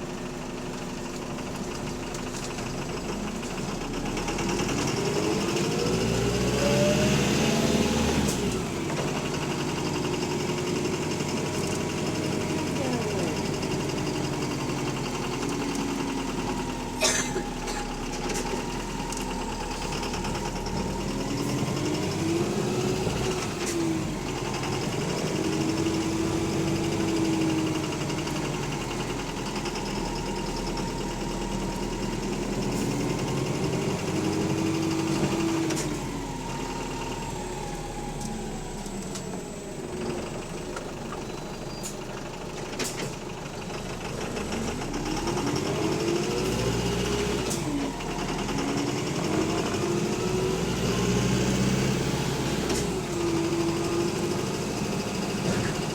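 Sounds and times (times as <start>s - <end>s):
bus engine with rod knock: 7.7s - 36.3s, 38.0s - 55.9s.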